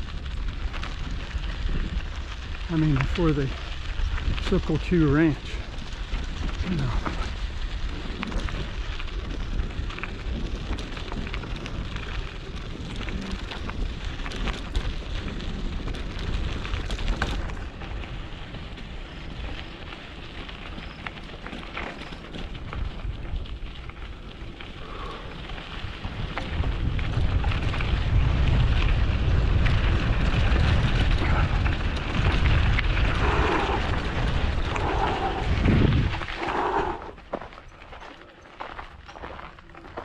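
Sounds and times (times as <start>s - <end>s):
mountain bike rolling: 0.0s - 40.0s
wind buffeting microphone: 0.0s - 40.0s.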